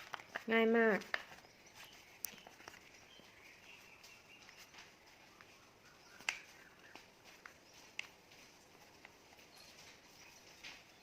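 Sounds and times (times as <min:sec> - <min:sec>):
paper rustling and tapping: 0:00.0 - 0:11.0.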